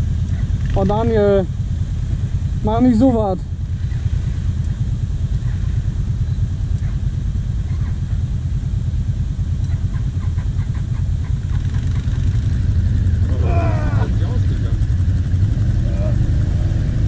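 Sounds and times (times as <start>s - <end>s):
quad bike engine idling: 0.0s - 17.0s.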